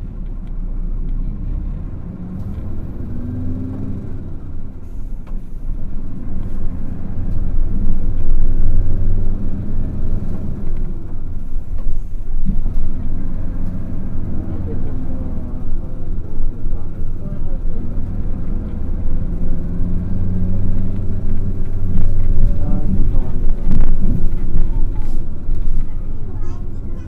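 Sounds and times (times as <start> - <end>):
bus diesel engine accelerating: 0.0 - 27.0.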